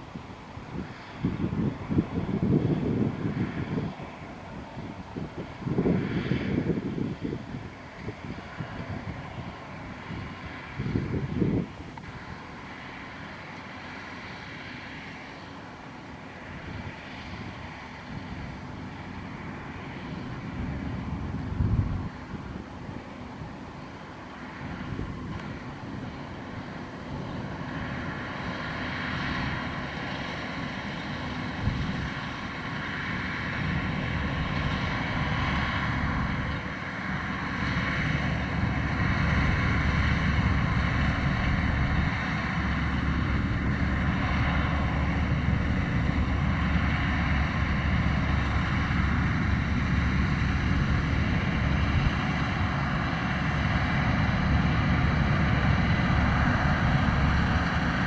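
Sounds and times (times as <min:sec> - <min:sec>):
combine harvester drone: 0:00.0 - 0:58.0.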